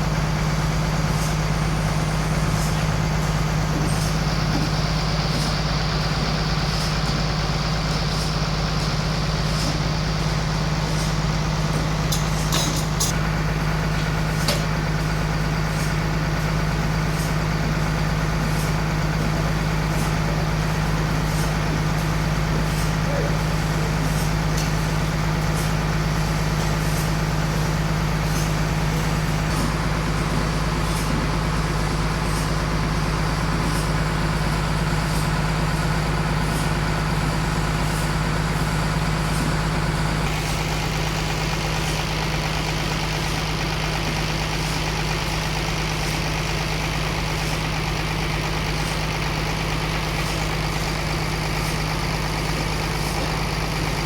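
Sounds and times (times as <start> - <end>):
sawmill machinery hum: 0.0 - 54.0.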